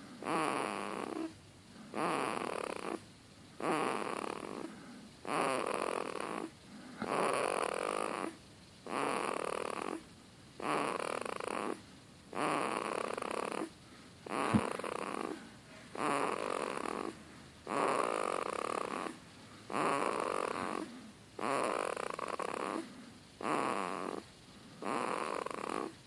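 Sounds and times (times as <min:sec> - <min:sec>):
rasping snore: 0:00.2 - 0:01.3, 0:01.9 - 0:03.0, 0:03.6 - 0:10.0, 0:10.6 - 0:11.8, 0:12.4 - 0:13.7, 0:14.3 - 0:15.4, 0:16.0 - 0:26.0.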